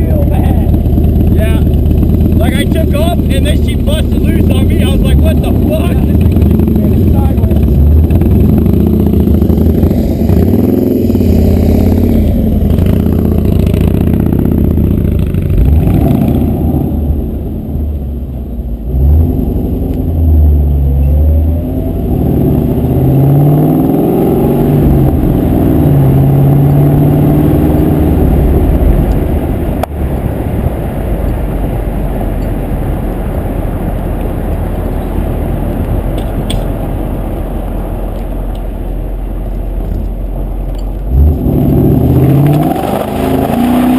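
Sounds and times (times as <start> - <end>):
steady rushing sound: 0.0 - 18.7, 22.0 - 43.9
vehicle engine revving: 0.0 - 43.9.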